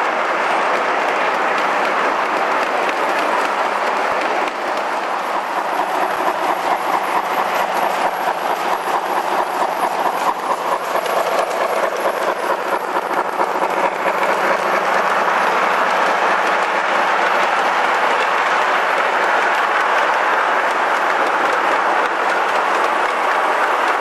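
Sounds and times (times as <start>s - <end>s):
model train rolling on track: 0.0s - 24.0s.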